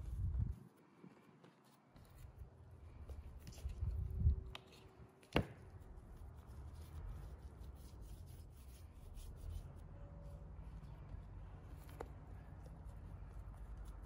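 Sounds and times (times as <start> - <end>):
hands rolling soft dough: 0.0 - 14.0.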